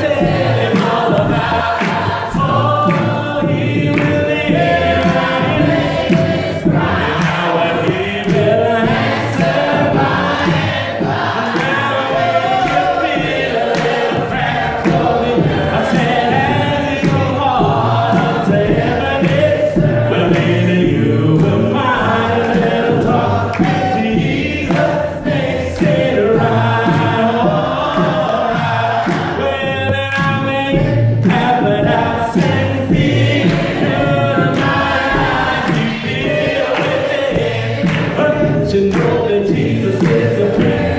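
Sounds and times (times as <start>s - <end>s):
choir singing gospel: 0.0s - 40.9s
pulsing low accompaniment: 0.0s - 40.9s.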